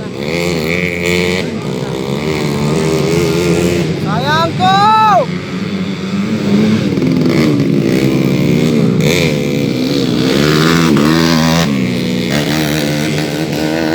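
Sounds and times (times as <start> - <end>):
race motorcycles revving: 0.0 - 13.9.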